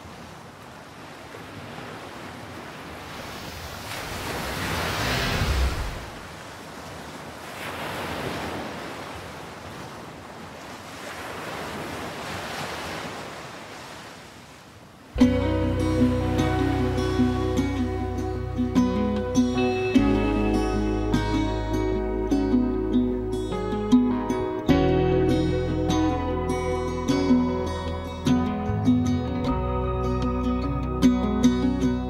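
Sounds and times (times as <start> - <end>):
ocean waves washing: 0.0 - 29.9.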